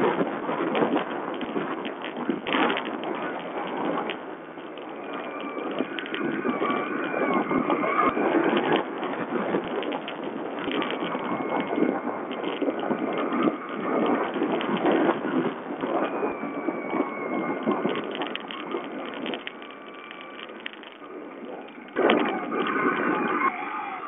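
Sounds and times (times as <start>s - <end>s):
bike knocks and rattles: 0.0s - 23.8s
wind buffeting: 0.0s - 24.0s.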